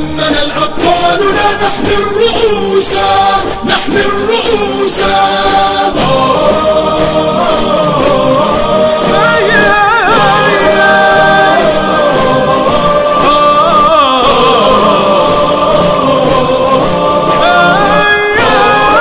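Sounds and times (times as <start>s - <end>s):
voices singing in harmony: 0.0s - 19.0s.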